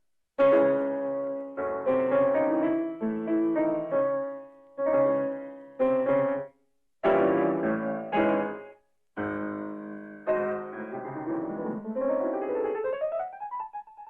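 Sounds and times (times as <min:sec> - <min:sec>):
piano chords: 0:00.4 - 0:14.0.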